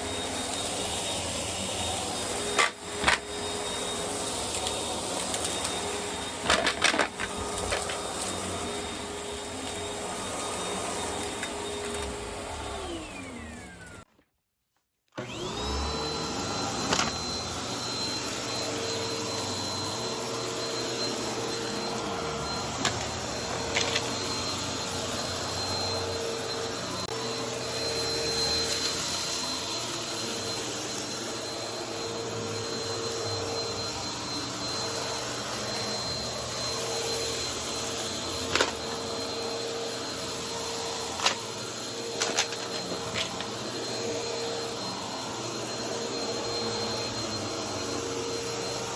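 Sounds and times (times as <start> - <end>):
vacuum motor winding down: 0.0 - 14.0, 15.2 - 48.9
vacuum cleaner running: 0.0 - 14.1, 15.2 - 48.9
vacuum motor whine spinning up: 0.0 - 14.1, 15.2 - 48.9.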